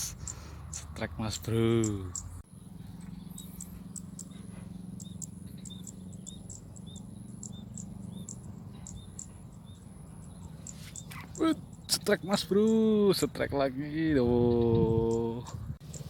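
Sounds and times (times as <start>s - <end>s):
insects chirping: 0.0s - 13.7s, 14.9s - 16.0s.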